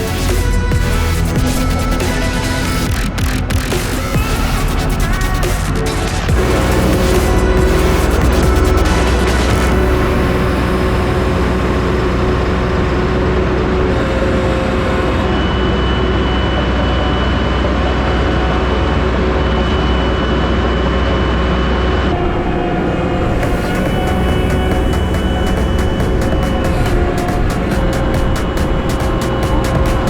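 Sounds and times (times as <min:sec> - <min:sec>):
engine deep drone: 0:00.0 - 0:30.0.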